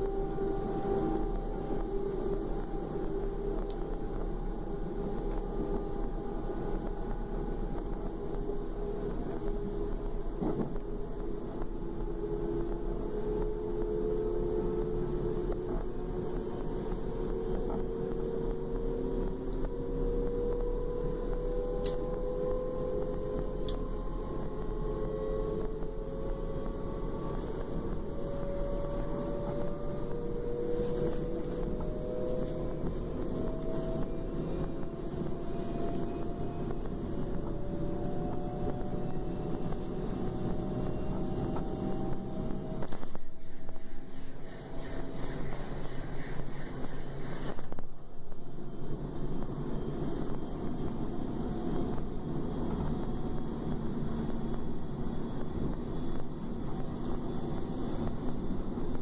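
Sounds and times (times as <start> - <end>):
traction drive whine: 0.0 - 59.0
train running gear rumble: 0.0 - 59.0.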